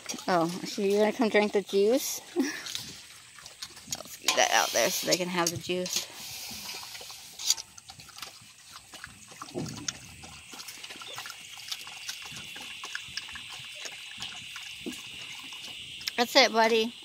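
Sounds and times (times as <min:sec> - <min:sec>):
dog lapping from metal bowl: 0:00.0 - 0:16.4.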